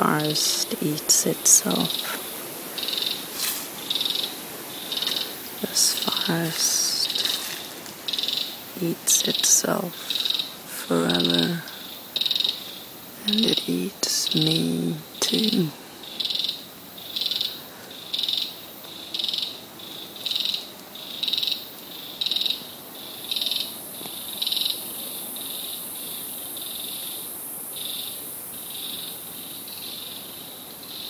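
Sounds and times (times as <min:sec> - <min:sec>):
insect buzzy chirps: 0:00.0 - 0:31.0
steady high hiss: 0:00.0 - 0:31.0.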